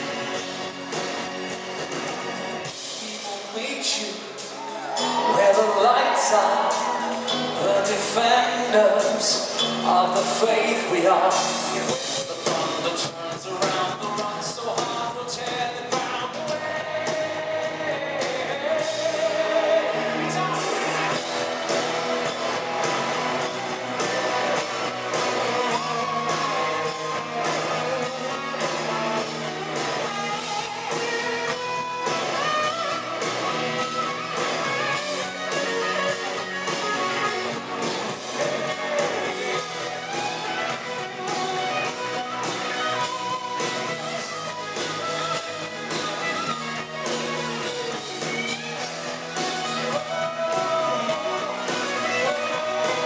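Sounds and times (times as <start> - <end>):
live pop-rock band: 0.0 - 53.0
person singing: 2.6 - 53.0.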